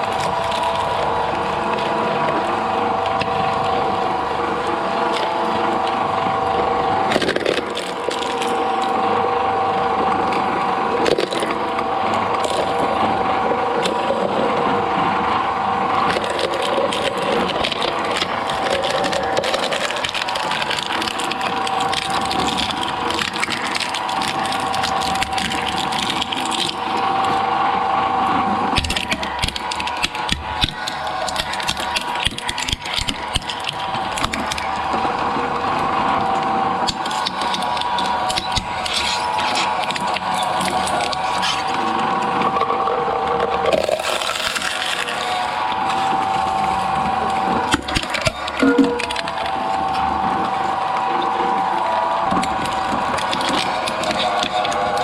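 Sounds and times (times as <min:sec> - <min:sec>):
material crunching and cracking: 0:00.0 - 0:03.8, 0:07.1 - 0:09.0, 0:10.3 - 0:13.1, 0:16.0 - 0:27.4, 0:28.7 - 0:35.7, 0:36.8 - 0:42.6, 0:43.3 - 0:55.0
shredder drive whine: 0:00.0 - 0:55.0.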